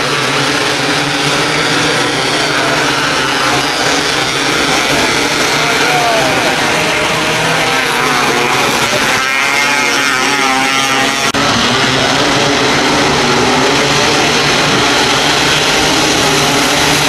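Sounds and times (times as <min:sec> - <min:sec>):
race car engines at high revs: 0:00.0 - 0:17.0.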